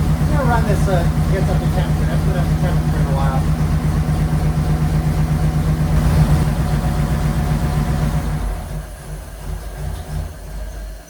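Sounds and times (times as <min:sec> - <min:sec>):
engine idling and stalling: 0:00.0 - 0:11.0.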